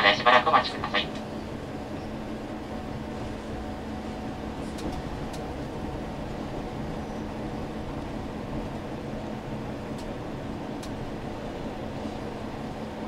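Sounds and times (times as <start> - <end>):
railcar cabin drone: 0.0 - 13.0.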